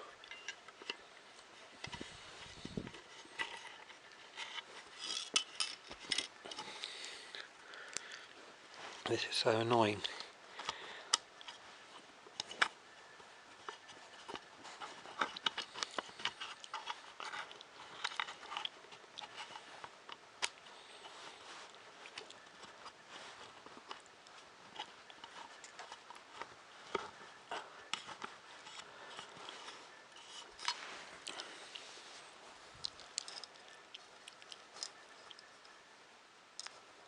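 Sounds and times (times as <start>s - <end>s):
small parts clicking and scraping: 0.1s - 32.2s, 32.8s - 35.8s.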